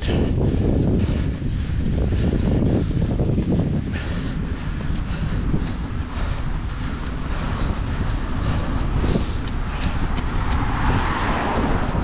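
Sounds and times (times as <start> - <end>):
road traffic passing: 0.0 - 12.0
wind buffeting microphone: 0.0 - 12.0.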